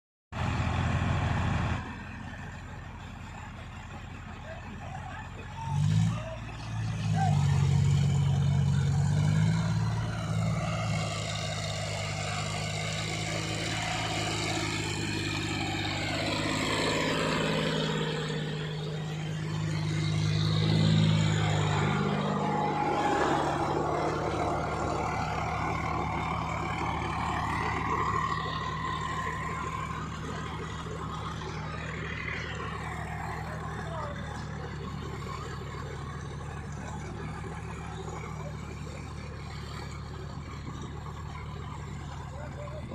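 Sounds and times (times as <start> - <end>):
tractor diesel engine running: 0.3 - 42.9.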